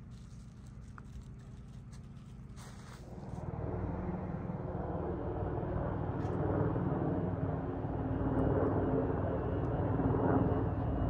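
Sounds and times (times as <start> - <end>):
helicopter engine drone: 0.0 - 11.0
helicopter rotor beat: 0.0 - 11.0.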